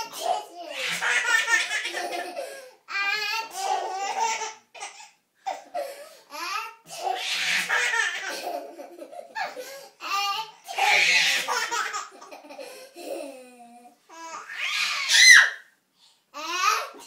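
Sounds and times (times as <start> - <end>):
baby laughing: 0.0 - 5.8, 6.9 - 15.4.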